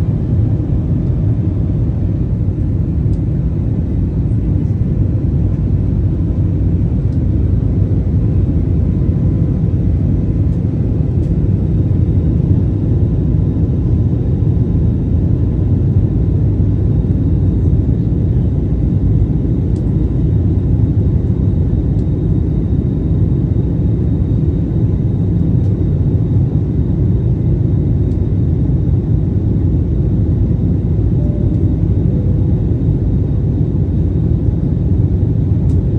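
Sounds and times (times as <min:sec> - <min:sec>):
airplane engines rumbling in cabin: 0:00.0 - 0:35.9.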